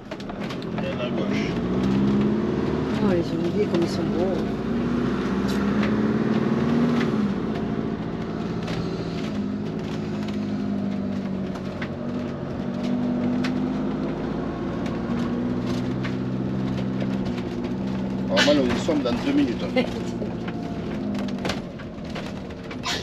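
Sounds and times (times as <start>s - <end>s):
faint clicks and rattles: 0.0s - 4.5s, 6.9s - 22.9s
vehicle engine droning: 0.0s - 23.0s.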